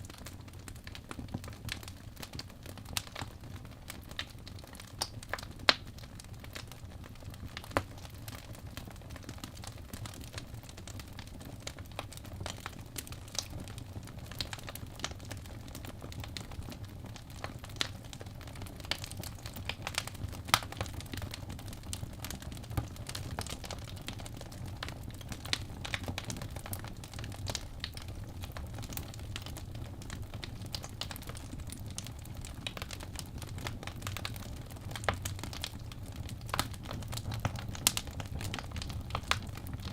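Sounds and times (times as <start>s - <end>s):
logs burning in a fireplace: 0.0s - 39.9s.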